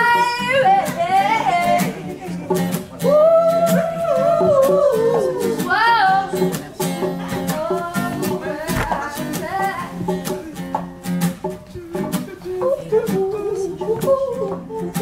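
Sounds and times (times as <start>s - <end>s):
woman singing reggae: 0.0s - 2.0s, 3.1s - 15.0s
strummed acoustic guitar: 0.0s - 15.0s.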